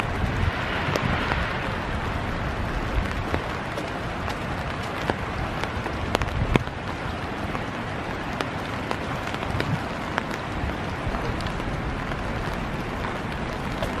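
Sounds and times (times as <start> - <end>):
raindrop ticks: 0.0 - 14.0
steady rain: 0.0 - 14.0.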